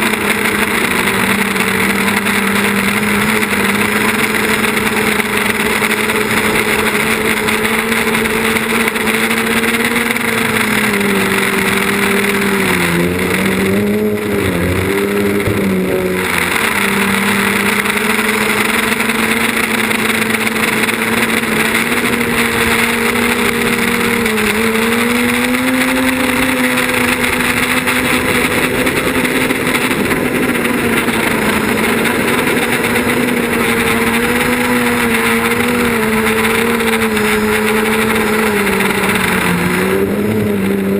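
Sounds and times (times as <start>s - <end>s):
drone propellers buzzing: 0.0s - 40.9s.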